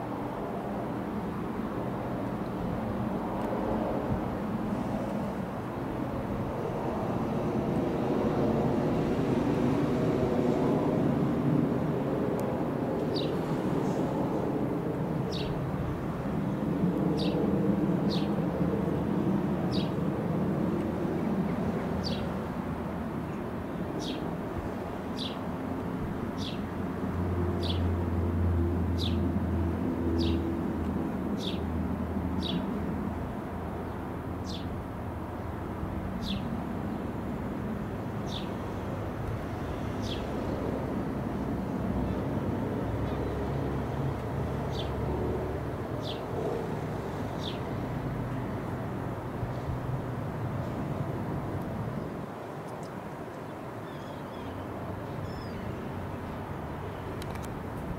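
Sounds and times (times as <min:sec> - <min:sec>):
jet flying overhead: 0:00.0 - 0:57.9.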